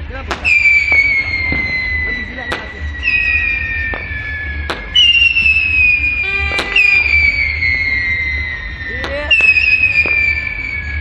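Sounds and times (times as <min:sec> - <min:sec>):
fireworks bursting cracks: 0:00.0 - 0:11.0
whistling fireworks: 0:00.0 - 0:11.0.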